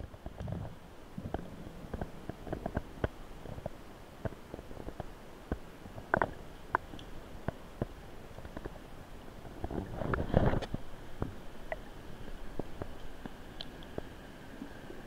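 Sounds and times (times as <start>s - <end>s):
underwater rumble: 0.0s - 15.0s.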